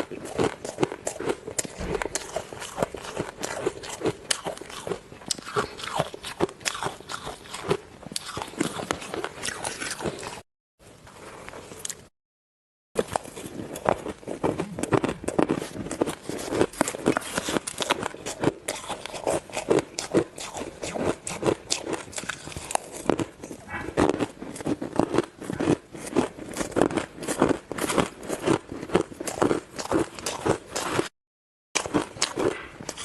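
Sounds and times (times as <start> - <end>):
ice being chewed: 0.0 - 10.4, 13.0 - 31.1, 31.8 - 33.0.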